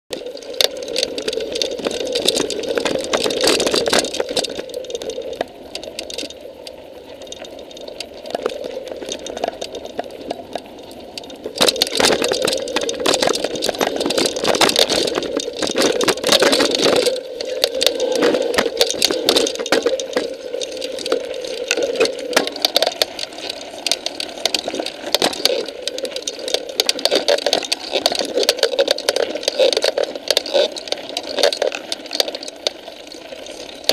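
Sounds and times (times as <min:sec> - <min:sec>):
mountain bike rattling on rocky trail: 0:00.6 - 0:06.4, 0:11.2 - 0:33.9.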